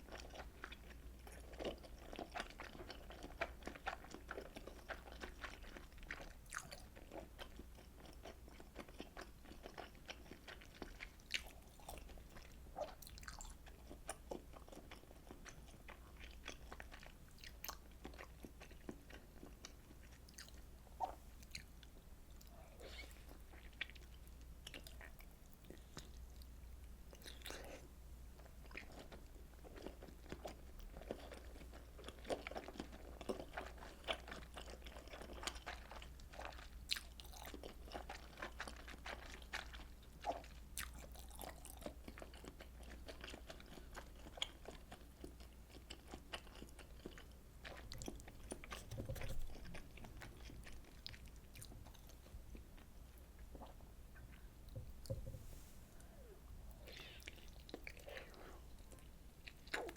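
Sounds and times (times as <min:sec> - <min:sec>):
chewing with wet clicks and smacks: 0:00.0 - 0:54.8, 0:56.7 - 0:59.9.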